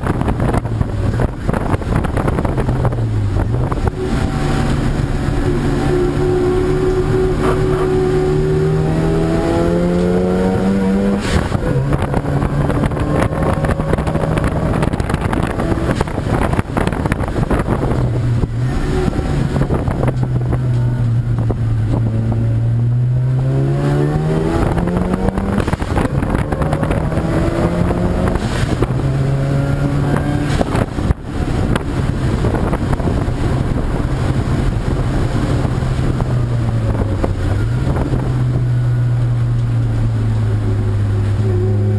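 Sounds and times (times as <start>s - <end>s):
racing car engine revving: 0.0s - 41.9s.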